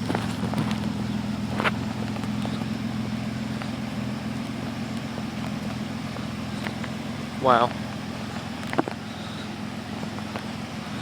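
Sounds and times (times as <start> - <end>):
vehicle engine running from inside: 0.0 - 11.0.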